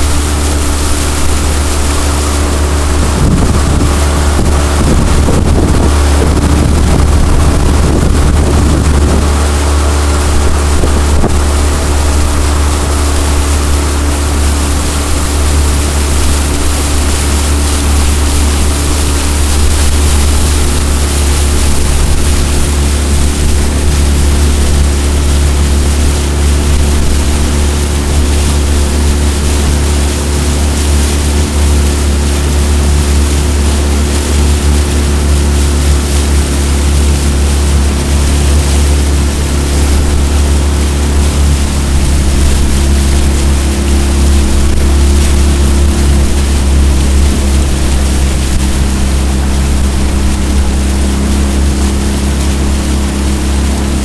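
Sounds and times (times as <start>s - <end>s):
outboard motor droning: 0.0s - 54.0s
water noise: 0.0s - 54.0s
wind buffeting microphone: 0.0s - 54.0s.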